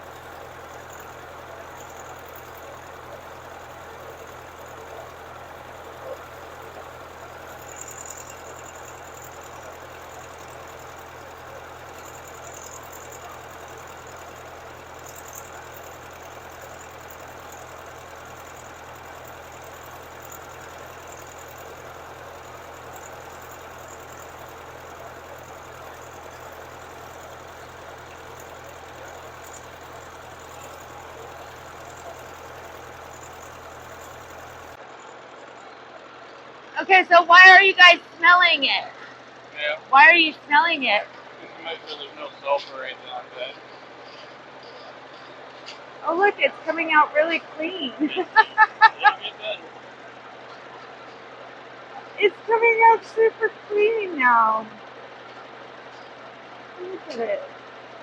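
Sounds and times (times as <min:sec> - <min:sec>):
drilling rig engine humming: 0:00.0 - 0:58.0.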